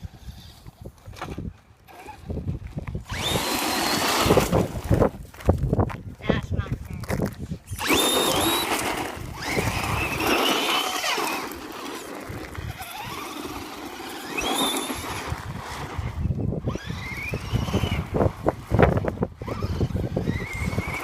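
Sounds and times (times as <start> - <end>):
electric toy car motor whining: 0.0 - 5.2, 7.6 - 21.0
toy car wheels on ground: 0.0 - 21.0.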